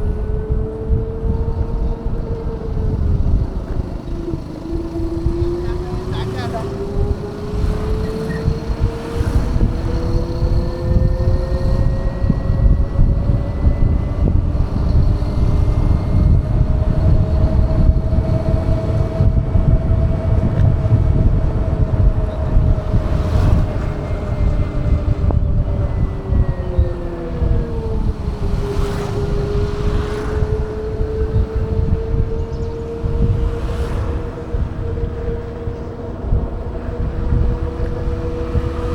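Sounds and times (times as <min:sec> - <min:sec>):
electric scooter motor whining: 0:00.0 - 0:38.9
wind buffeting microphone: 0:00.0 - 0:38.9.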